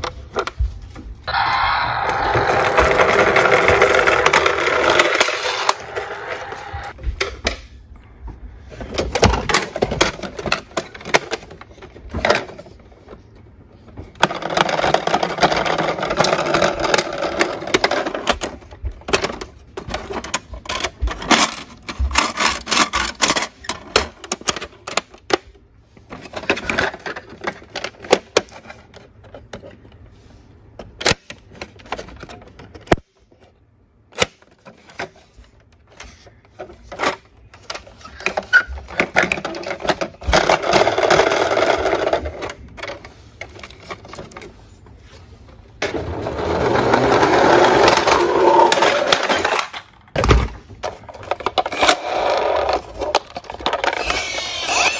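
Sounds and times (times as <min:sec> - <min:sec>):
plastic toy rattling and scraping: 0:00.0 - 0:07.0, 0:08.6 - 0:54.9.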